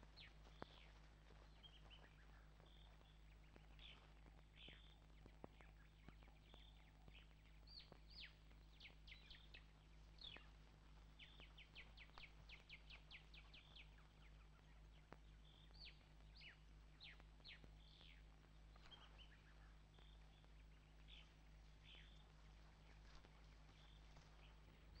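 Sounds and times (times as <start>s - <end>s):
faint birdsong whistles: 0.0s - 25.0s
steady low hum: 0.0s - 25.0s.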